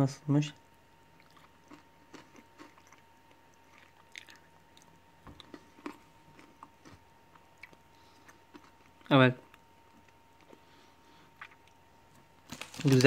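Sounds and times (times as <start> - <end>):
faint chocolate chewing crunches: 1.2 - 13.0.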